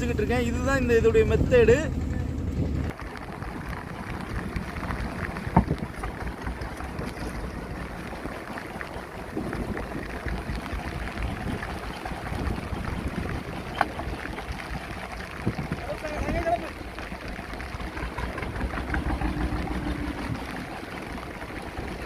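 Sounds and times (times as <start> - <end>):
sea water washing around boat: 0.0 - 22.0
wind buffeting microphone: 0.0 - 22.0.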